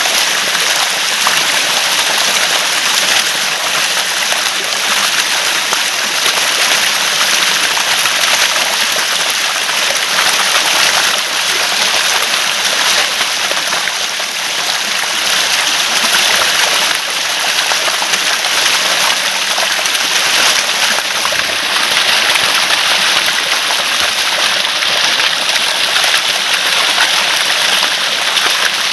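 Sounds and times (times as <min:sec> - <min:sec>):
running water gurgling: 0:00.0 - 0:28.9.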